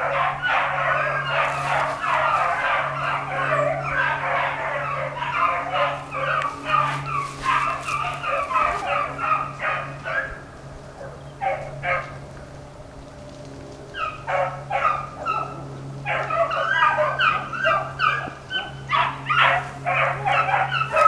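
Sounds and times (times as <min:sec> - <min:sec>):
dogs baying: 0:00.0 - 0:12.3, 0:13.9 - 0:21.0.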